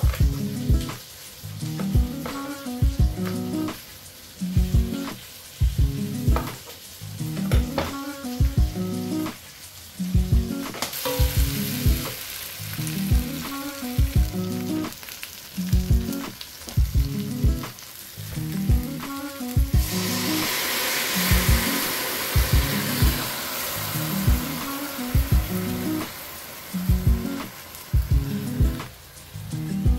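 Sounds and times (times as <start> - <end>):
background music with beat: 0.0 - 29.9
vegetables sizzling in pot: 0.0 - 29.9.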